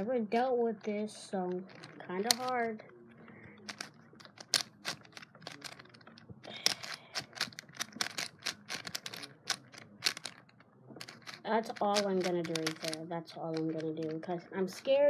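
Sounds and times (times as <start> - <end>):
plastic puzzle clicking: 1.5 - 2.9, 3.5 - 14.3.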